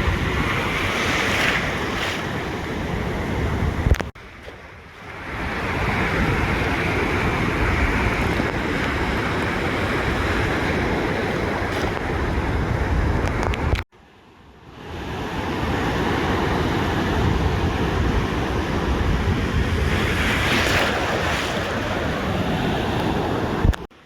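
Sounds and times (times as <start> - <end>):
wind buffeting microphone: 0.0 - 13.8, 15.6 - 23.9
ocean waves washing on beach: 0.0 - 24.0.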